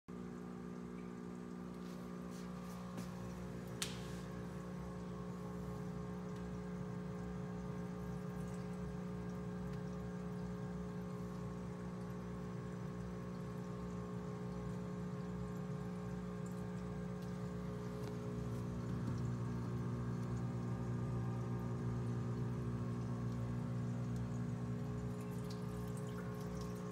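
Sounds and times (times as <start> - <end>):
electric pump hum: 0.1 - 26.9
water trickling: 0.1 - 26.9.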